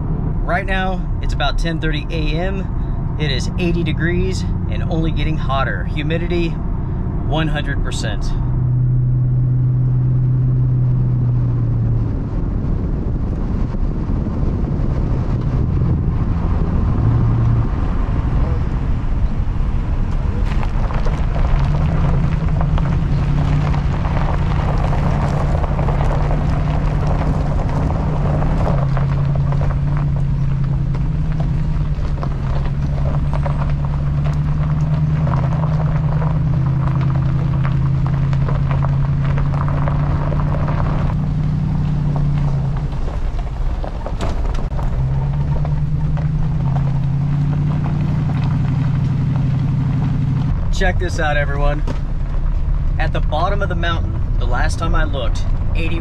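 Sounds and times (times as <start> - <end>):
truck engine drone: 0.0 - 56.0
tyre and road noise: 0.0 - 56.0.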